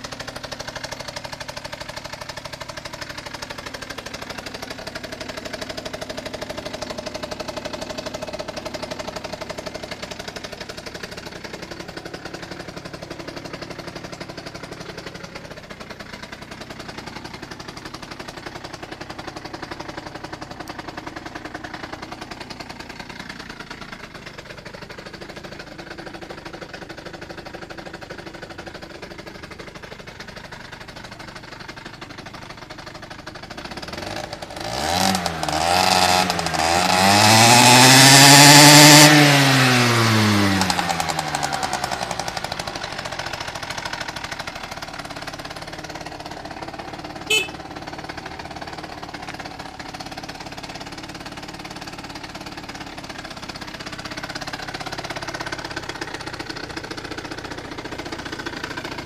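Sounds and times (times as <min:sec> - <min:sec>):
two-stroke scooter engine idling: 0:00.0 - 0:59.0.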